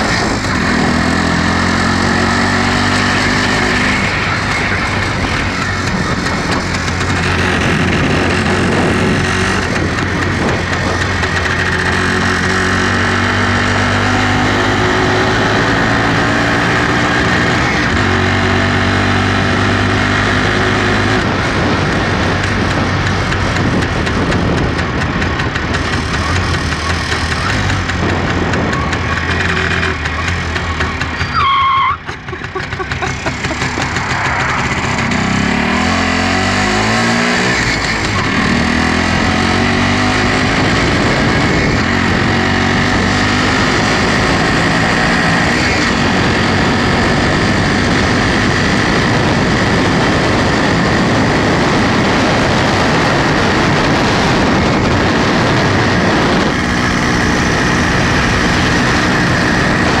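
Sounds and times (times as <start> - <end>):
two-stroke motorcycle engine: 0.0 - 60.0
wind noise on microphone: 0.0 - 60.0.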